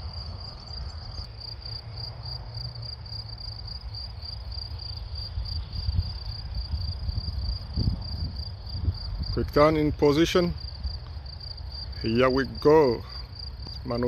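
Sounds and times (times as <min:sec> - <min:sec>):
insects chirping in pulsing trill: 0:00.0 - 0:14.0.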